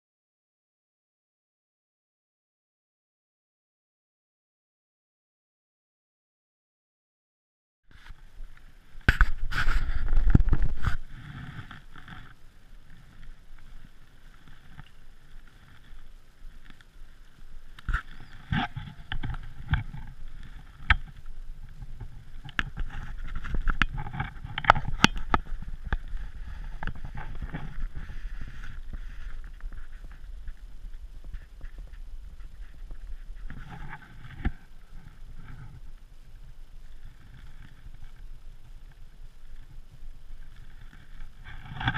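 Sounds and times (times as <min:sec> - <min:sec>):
wind rumbling on microphone: 0:07.9 - 0:41.9.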